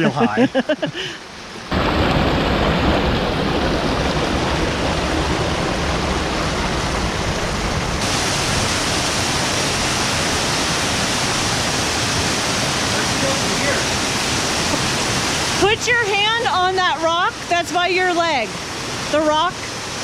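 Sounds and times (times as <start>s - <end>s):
waterfall and creek rushing: 0.0s - 20.0s.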